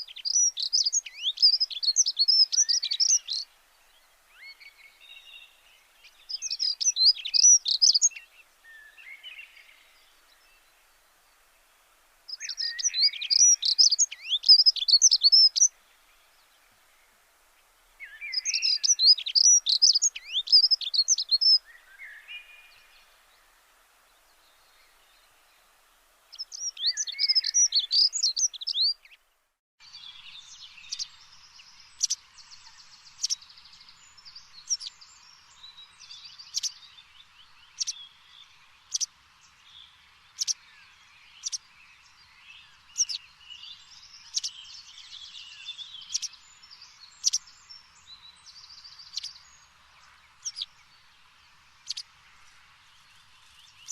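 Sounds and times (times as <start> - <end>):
chorus of birds: 0.0 - 53.9.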